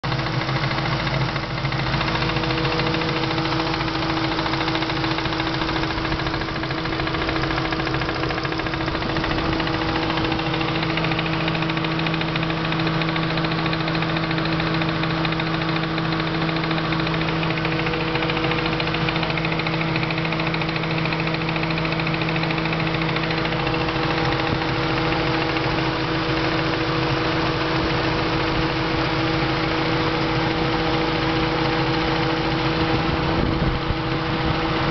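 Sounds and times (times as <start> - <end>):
car engine with rapid knock: 0.0 - 34.9.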